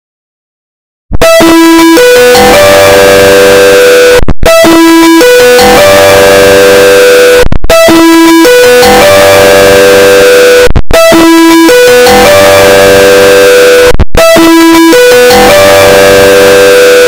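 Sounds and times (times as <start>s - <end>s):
distorted phone ringtone: 1.2s - 17.0s.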